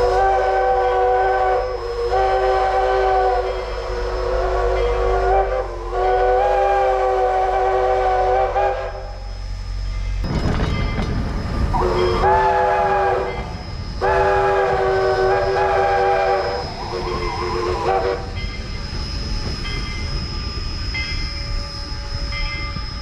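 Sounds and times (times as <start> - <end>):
steam locomotive whistle blasts: 0.0 - 9.8, 11.7 - 23.0.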